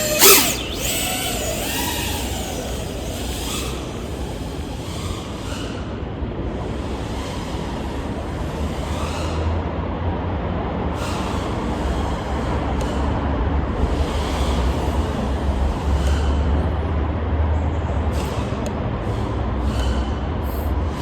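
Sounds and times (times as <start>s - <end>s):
quadcopter motors and propellers: 0.0s - 21.0s.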